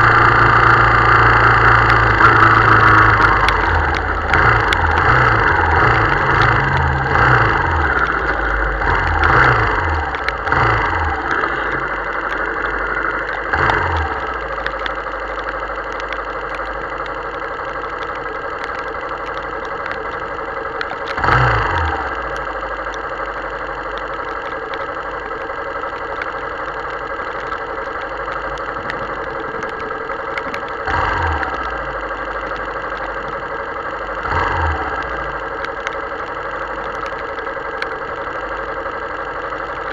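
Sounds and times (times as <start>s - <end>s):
heavy rain on wet road: 0.0s - 39.9s
motorcycle engine idling: 0.0s - 39.9s.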